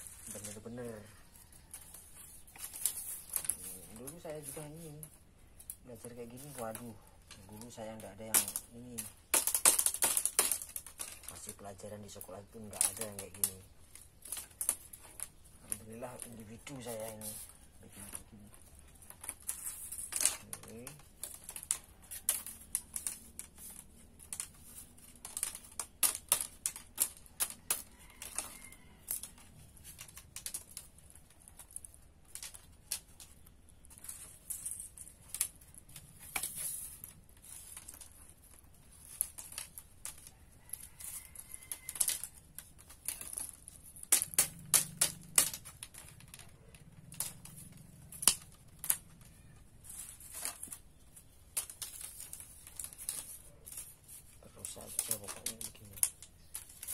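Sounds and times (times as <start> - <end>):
bamboo strips clicking: 0.0 - 56.9.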